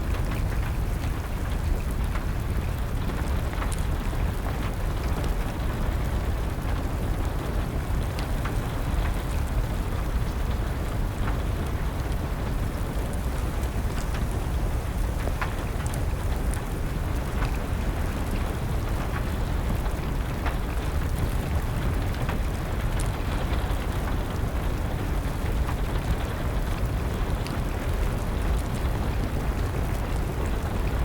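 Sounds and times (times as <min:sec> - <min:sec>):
steady rain: 0:00.0 - 0:31.0
wood fire crackling: 0:00.0 - 0:31.0.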